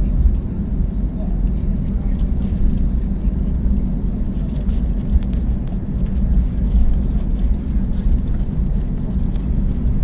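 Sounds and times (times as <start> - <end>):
jet engines rumbling in cabin: 0.0 - 10.0.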